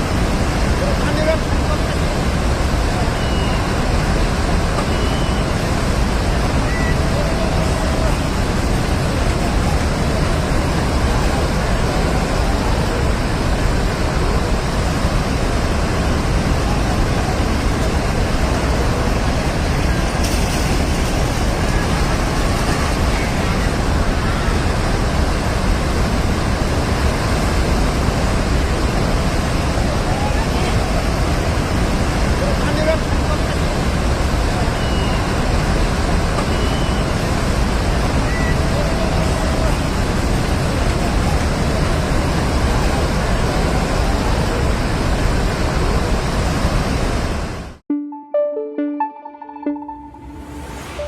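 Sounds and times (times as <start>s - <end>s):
rushing flood water: 0.0s - 47.8s.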